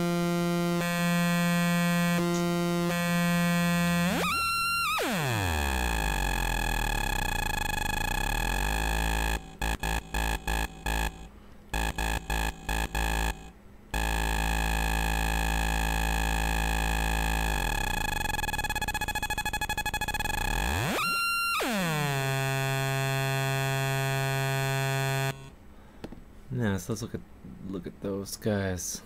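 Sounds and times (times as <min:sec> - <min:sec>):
oscillator circuit buzzing: 0:00.0 - 0:25.6.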